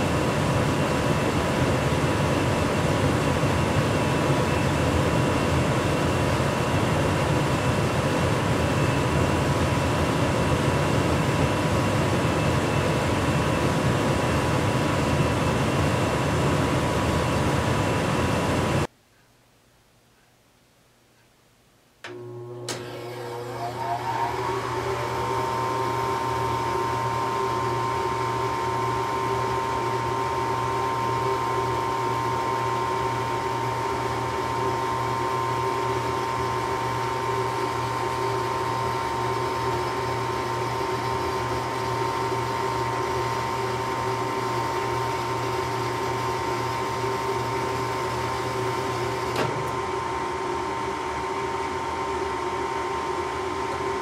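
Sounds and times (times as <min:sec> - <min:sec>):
furnace hum and rush: 0:00.0 - 0:18.9, 0:21.2 - 0:54.0.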